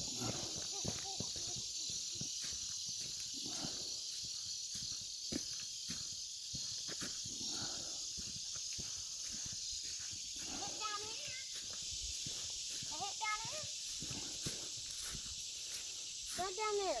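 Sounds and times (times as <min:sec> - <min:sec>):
footsteps on outdoor ground: 0:00.0 - 0:17.0
high-pitched background hiss: 0:00.0 - 0:17.0.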